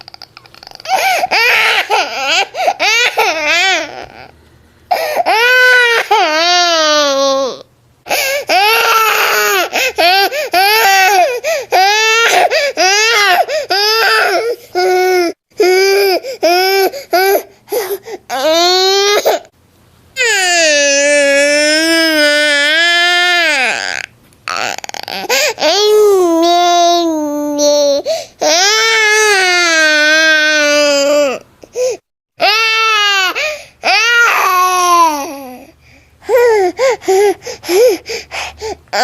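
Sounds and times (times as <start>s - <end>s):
baby crying: 0.0s - 4.3s, 4.9s - 19.5s, 20.2s - 31.4s, 32.4s - 38.2s.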